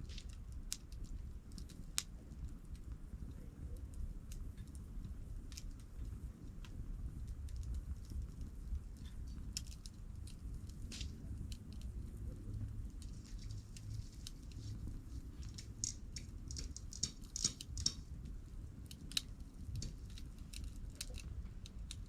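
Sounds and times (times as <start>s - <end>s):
campfire crackling and popping: 0.0s - 22.0s
low steady rumble: 0.0s - 22.0s.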